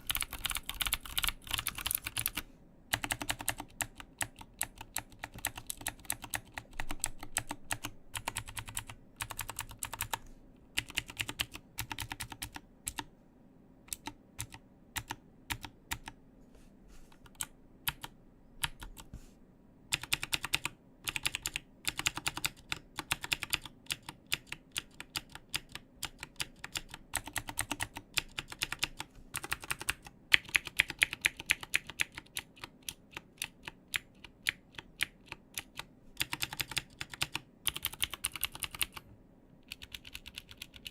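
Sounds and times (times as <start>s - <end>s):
clicky mechanical keyboard typing: 0.0s - 13.1s, 13.9s - 16.2s, 17.2s - 19.1s, 19.9s - 40.9s.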